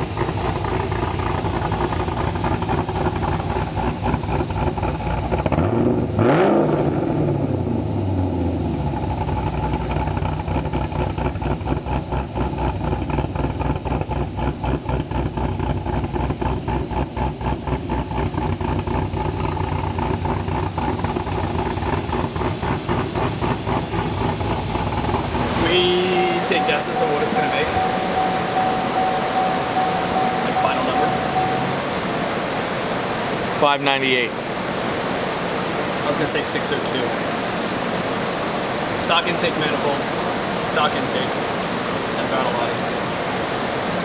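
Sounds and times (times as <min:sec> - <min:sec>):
car engine revving and idling: 0:00.0 - 0:42.0.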